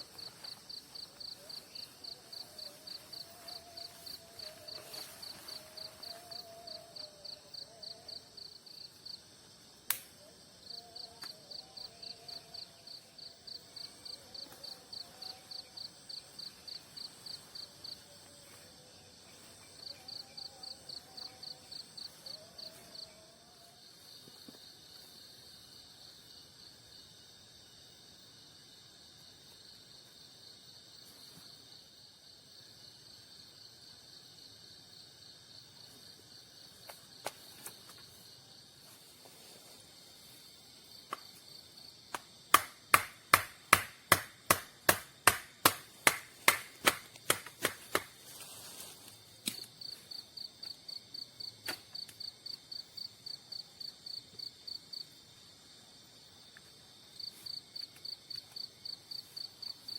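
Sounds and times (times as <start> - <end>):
insects chirping in a trill: 0.0 - 59.9.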